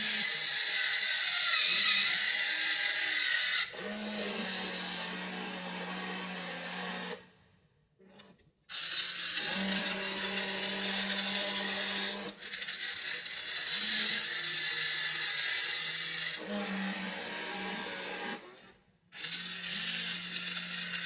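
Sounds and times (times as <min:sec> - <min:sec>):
small electric motors whining: 0:00.0 - 0:07.3, 0:08.1 - 0:21.0.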